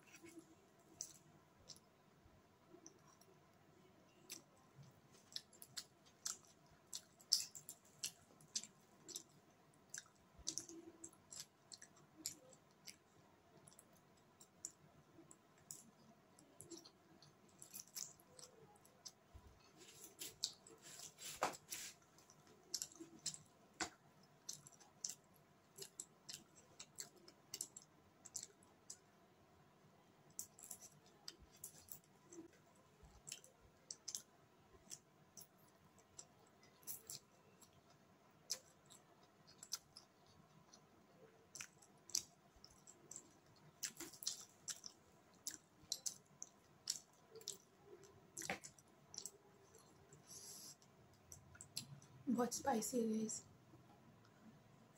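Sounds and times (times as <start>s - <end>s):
noodles being chewed: 0.0s - 2.0s, 2.6s - 29.3s, 30.1s - 52.2s.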